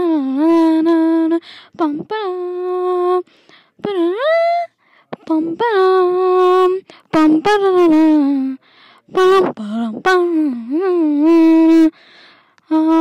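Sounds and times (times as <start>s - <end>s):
person singing wordless tune: 0.0s - 12.0s, 12.6s - 13.0s.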